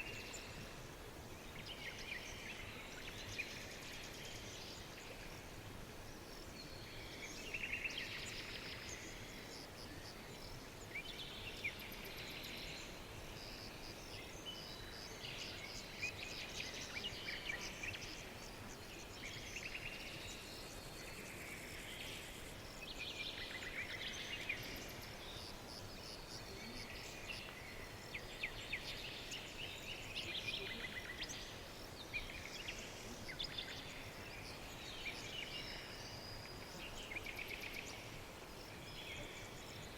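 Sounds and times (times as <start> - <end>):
background hiss: 0.0 - 39.9
songbirds singing and chirping: 0.0 - 39.9.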